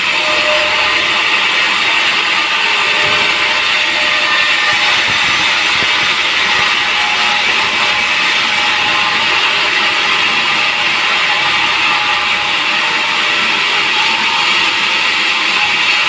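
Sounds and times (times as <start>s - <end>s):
sawmill saw cutting log: 0.0s - 16.0s.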